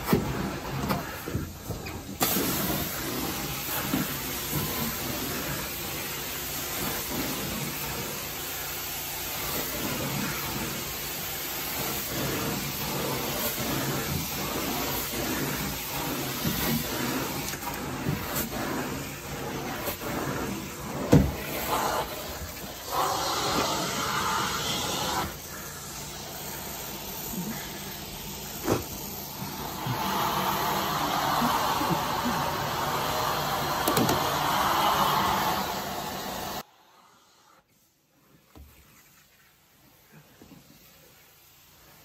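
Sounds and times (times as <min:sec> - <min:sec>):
carpet extraction wand hissing: 0:00.0 - 0:37.6.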